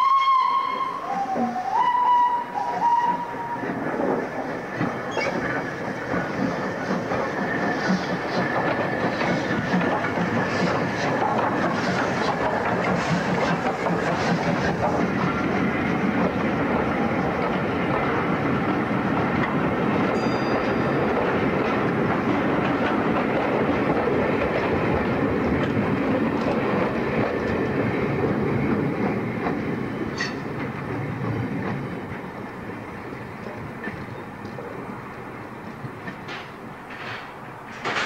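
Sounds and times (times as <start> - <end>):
train wheels clattering on rails: 2.4 - 38.0.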